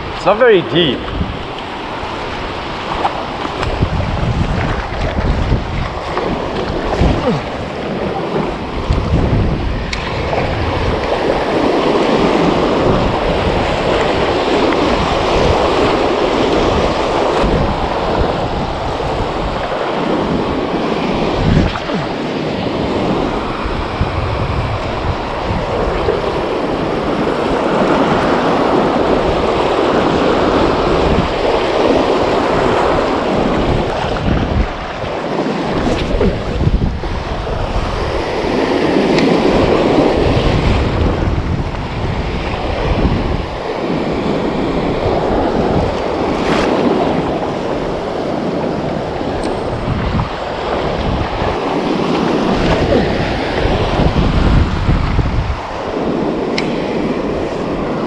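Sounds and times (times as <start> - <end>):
surf washing around legs: 0.0 - 58.0
waves breaking: 0.0 - 58.0
wind buffeting microphone: 0.0 - 58.0.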